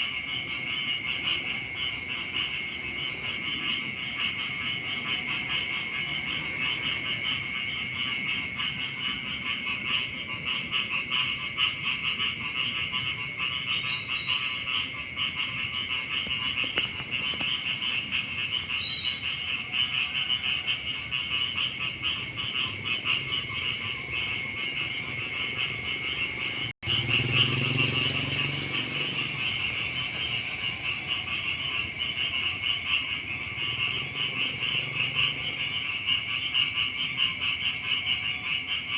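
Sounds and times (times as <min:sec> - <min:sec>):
frogs croaking in chorus: 0:00.0 - 0:38.9.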